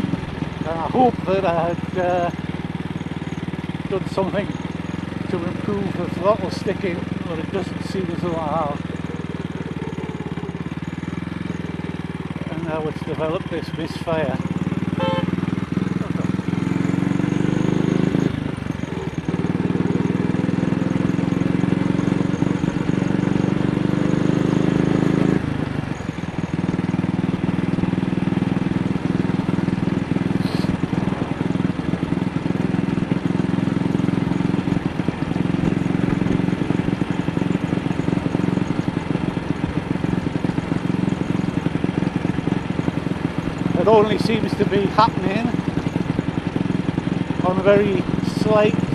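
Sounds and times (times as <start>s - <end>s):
motorcycle engine misfiring: 0.0s - 48.9s.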